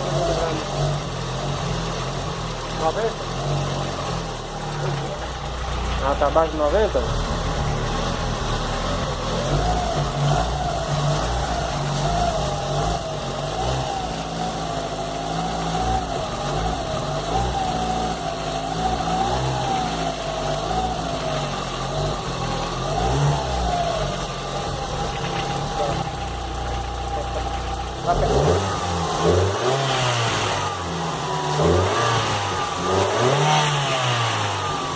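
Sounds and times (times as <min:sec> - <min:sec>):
car engine idling: 0:00.0 - 0:34.9
wavering engine whine: 0:04.2 - 0:34.9.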